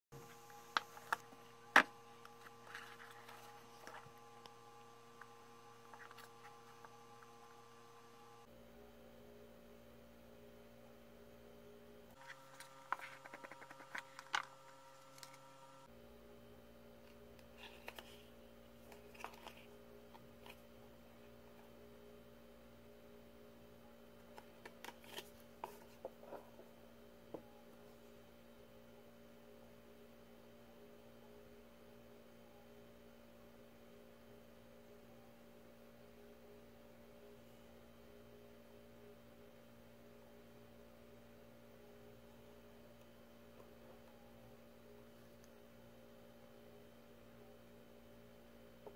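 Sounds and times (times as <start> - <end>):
faint electrical hum: 0.2 - 48.9.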